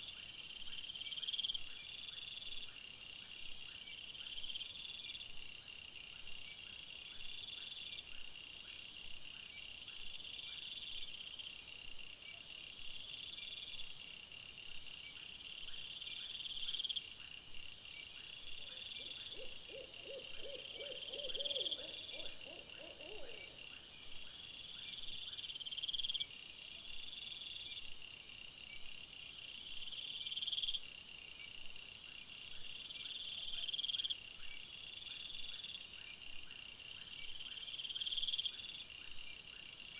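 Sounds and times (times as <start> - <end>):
low pulsing insect call: 0.0 - 39.9.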